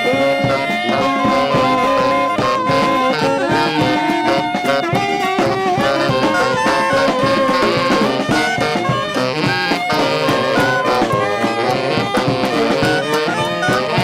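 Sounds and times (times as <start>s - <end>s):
brass street band: 0.0s - 14.0s.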